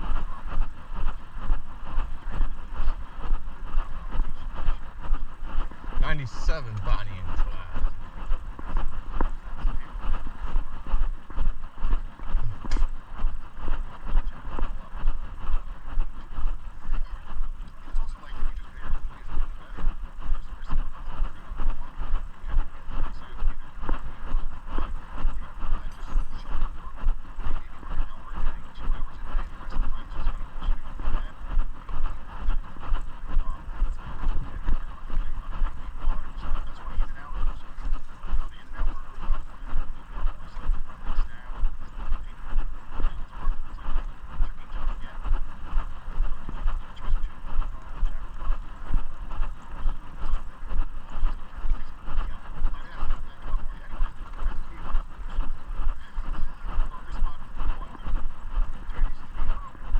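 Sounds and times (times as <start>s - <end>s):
footsteps walking: 0.0s - 59.9s
microphone bumping rumble: 0.0s - 59.9s
rustling noise: 0.0s - 59.9s.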